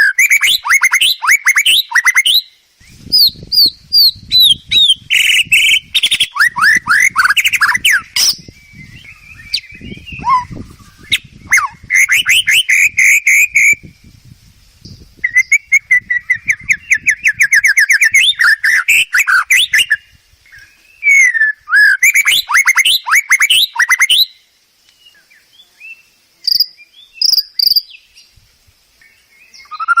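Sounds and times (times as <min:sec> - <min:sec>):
bird singing whistled trills: 0:00.0 - 0:14.2, 0:14.8 - 0:28.4, 0:29.0 - 0:30.0.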